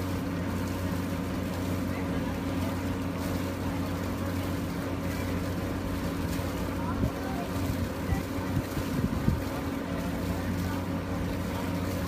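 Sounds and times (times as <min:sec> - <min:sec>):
motorboat engine humming: 0:00.0 - 0:12.0
water and wind hiss: 0:00.0 - 0:12.0.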